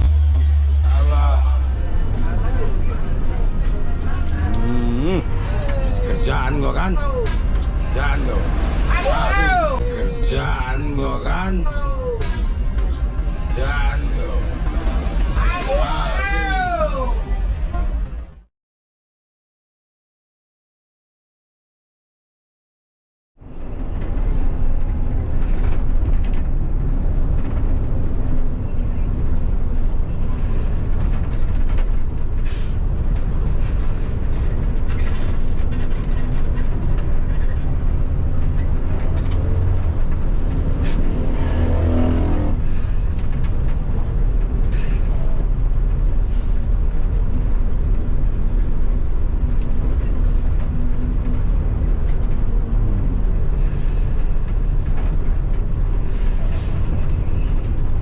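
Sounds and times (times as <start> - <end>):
bus engine and road noise: 0.0 - 18.5, 23.4 - 58.0.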